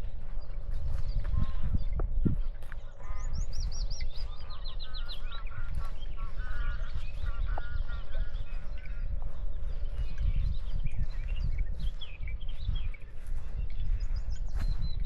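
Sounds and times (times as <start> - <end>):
birds calling and singing: 0.0 - 15.0
low rumble: 0.0 - 15.0.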